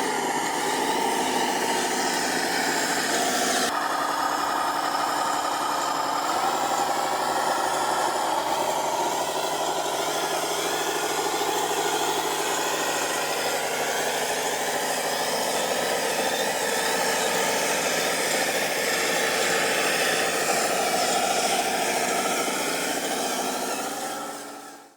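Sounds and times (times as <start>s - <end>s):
toy truck motor hum: 0.0s - 24.9s.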